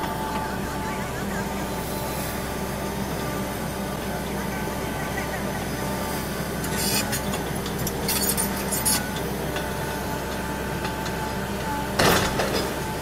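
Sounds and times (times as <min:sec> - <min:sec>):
excavator engine and hydraulics: 0:00.0 - 0:13.0.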